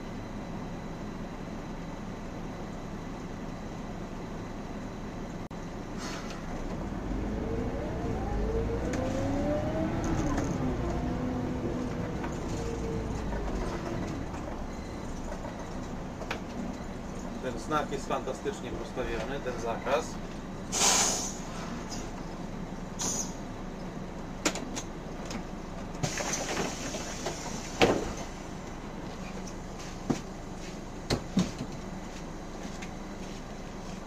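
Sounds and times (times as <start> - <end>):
bus diesel engine: 0.0 - 34.0.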